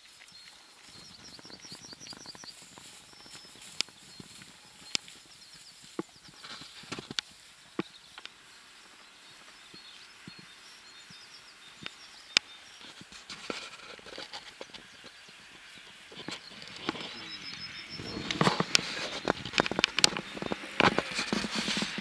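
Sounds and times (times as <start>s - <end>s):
cows walking through grass: 0.0s - 22.0s
faint bird chirps: 0.0s - 22.0s.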